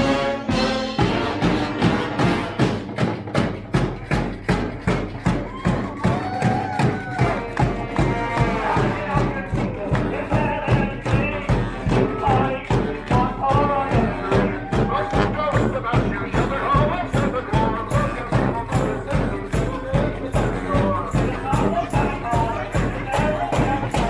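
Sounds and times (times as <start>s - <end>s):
brass band playing: 0.0s - 24.0s
heavy drum beat: 0.0s - 24.0s.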